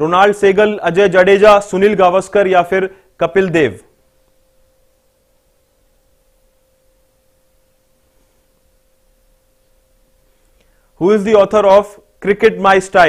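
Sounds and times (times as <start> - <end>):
thin steady tone: 0.4 - 13.0.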